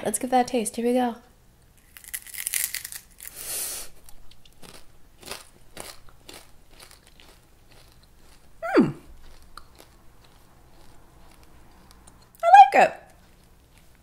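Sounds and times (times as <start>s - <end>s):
mouth crunching and chewing: 1.8s - 12.4s, 13.1s - 14.0s.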